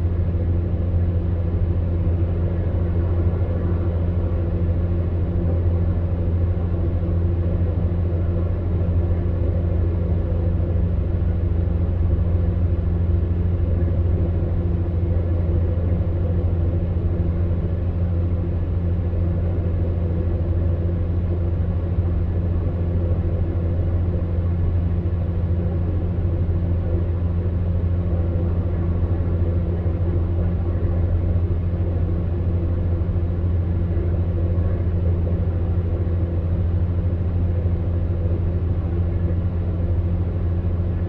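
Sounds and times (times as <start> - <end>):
airy fan noise: 0.0 - 41.0
fan heater hum: 0.0 - 41.0.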